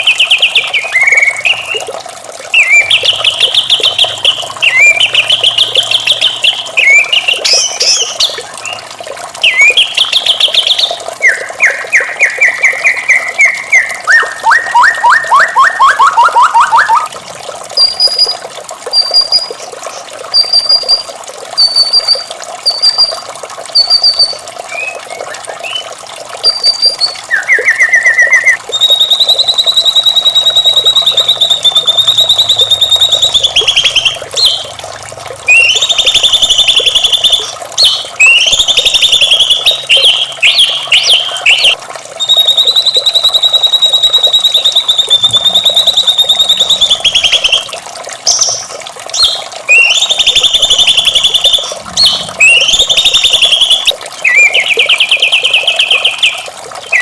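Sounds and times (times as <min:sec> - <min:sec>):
songbird singing trills and whistles: 0:00.0 - 0:01.9, 0:02.5 - 0:17.1, 0:17.8 - 0:34.7, 0:35.5 - 0:57.0.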